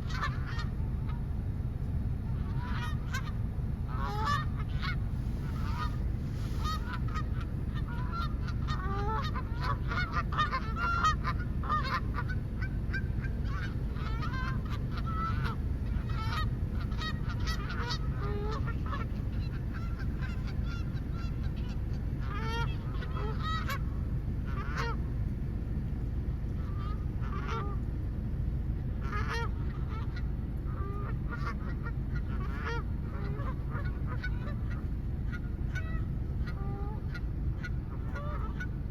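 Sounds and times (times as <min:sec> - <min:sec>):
geese honking: 0:00.0 - 0:38.9
steady low rumble: 0:00.0 - 0:38.9.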